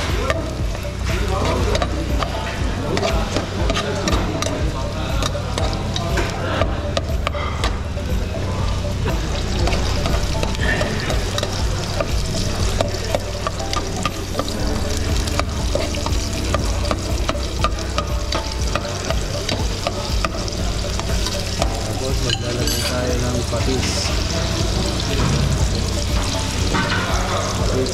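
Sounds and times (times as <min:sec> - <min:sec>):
onion and garlic sizzling in oil: 0:00.0 - 0:27.9.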